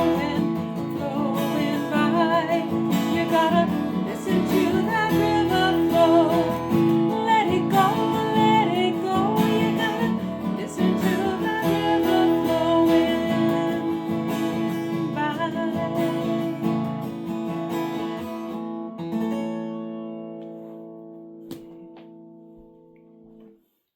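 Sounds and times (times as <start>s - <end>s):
acoustic guitar chords: 0.0s - 23.5s.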